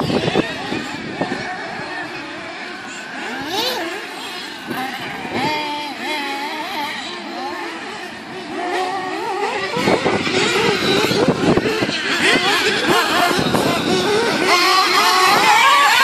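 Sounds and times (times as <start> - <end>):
radio-controlled car motors revving: 0.0 - 16.0.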